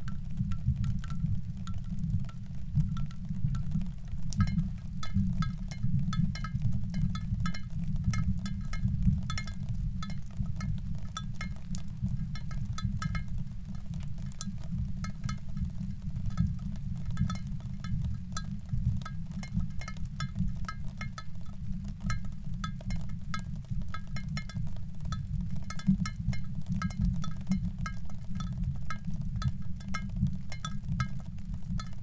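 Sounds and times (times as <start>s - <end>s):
small clicks and clinks: 0.1s - 13.4s, 14.2s - 32.0s.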